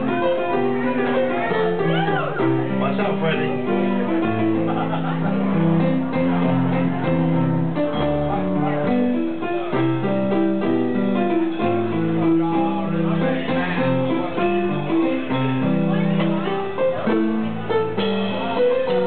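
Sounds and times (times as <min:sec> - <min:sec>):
keyboard chords over bass line: 0:00.0 - 0:19.0.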